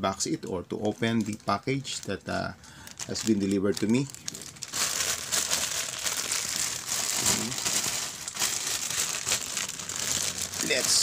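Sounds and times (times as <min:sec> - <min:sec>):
plastic bag crinkling: 0:00.4 - 0:11.0.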